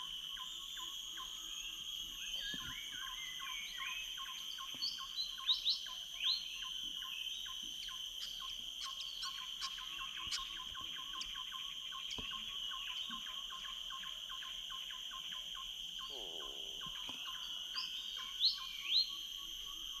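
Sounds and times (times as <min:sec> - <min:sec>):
insects droning: 0:00.0 - 0:20.0
birds calling and whistling: 0:02.2 - 0:20.0.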